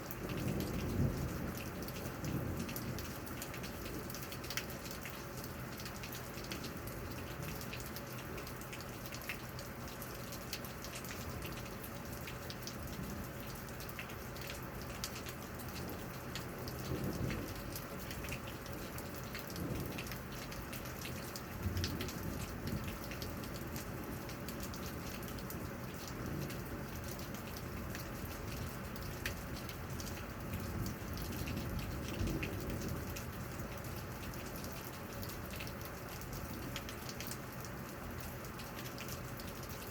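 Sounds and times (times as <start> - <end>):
steady rain with drops tapping: 0.0 - 39.9.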